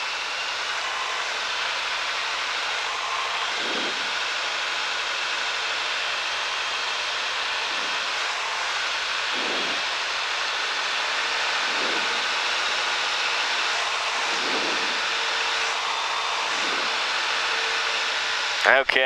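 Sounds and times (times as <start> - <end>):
airplane engine and propeller: 0.0 - 19.0
rushing airflow: 0.6 - 18.6.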